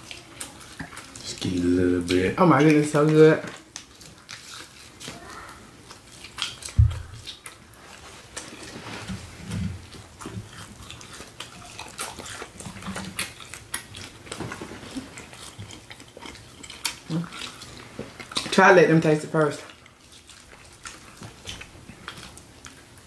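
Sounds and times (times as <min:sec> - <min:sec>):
wet chewing and lip-smacking: 0:00.0 - 0:23.0.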